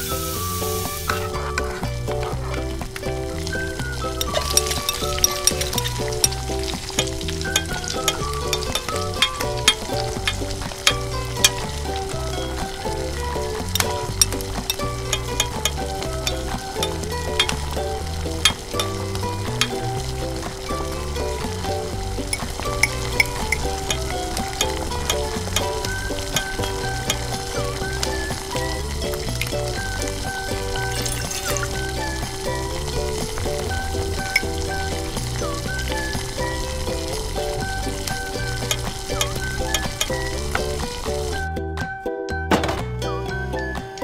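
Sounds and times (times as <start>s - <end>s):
vegetables sizzling in hot oil: 0.0s - 41.4s.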